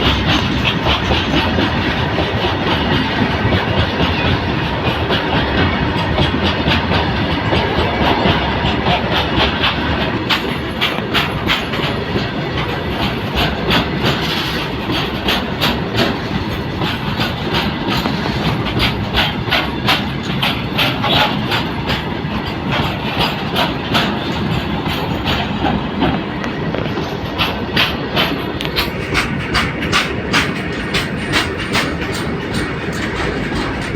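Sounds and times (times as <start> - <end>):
train rumbling: 0.0 - 33.9
wheels clicking over rail joints: 0.0 - 33.9.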